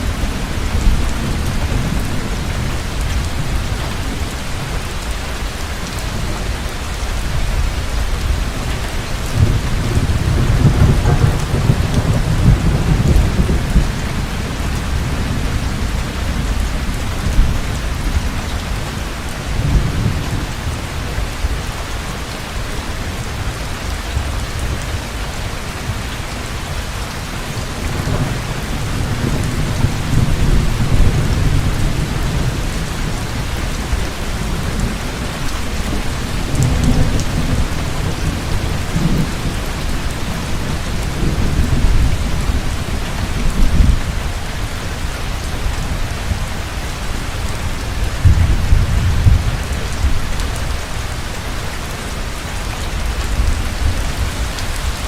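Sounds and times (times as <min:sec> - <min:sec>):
thunder rumbling: 0:00.0 - 0:26.6, 0:27.3 - 0:51.6
heavy rain falling: 0:00.0 - 0:55.0.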